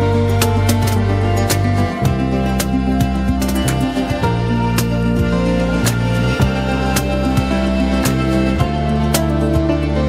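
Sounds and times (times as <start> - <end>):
instrumental music held notes: 0.0 - 10.0.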